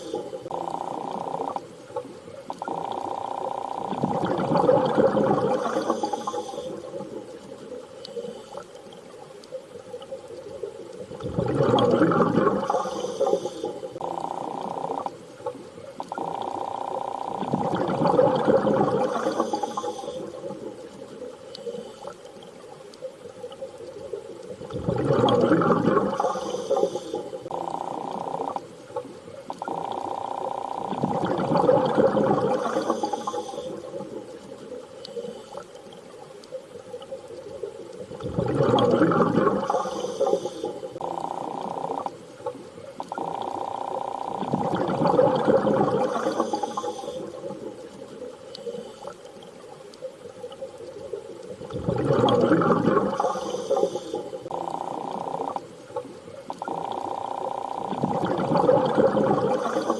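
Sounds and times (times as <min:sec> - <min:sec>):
rushing bubbling water underwater: 0:00.0 - 0:59.9.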